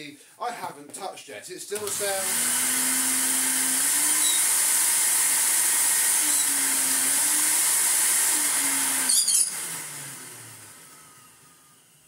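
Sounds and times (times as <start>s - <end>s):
vacuum cleaner running: 1.8s - 12.0s.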